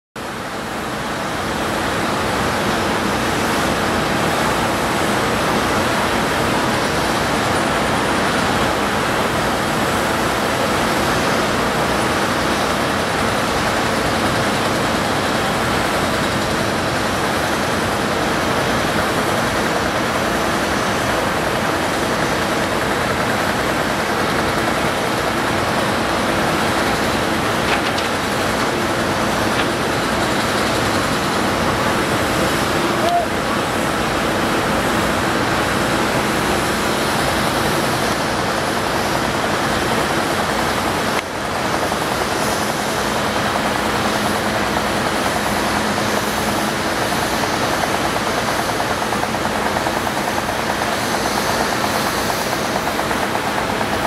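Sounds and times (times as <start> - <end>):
excavator engine and hydraulics: 0.2 - 54.0.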